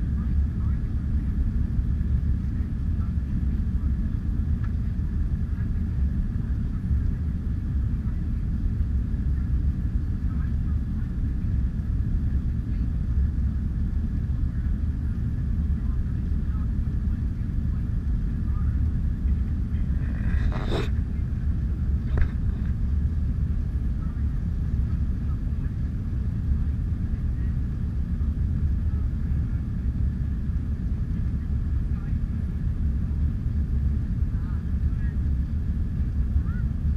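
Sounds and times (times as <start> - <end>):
faint even hum: 0.0 - 36.9
jet airliner cabin rumble: 0.0 - 36.9.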